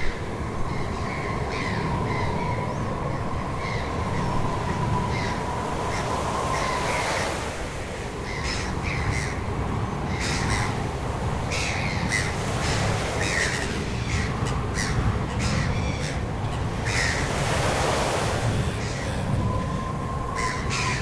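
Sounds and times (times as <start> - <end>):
birds harsh calls: 0.0 - 19.6, 20.2 - 21.0.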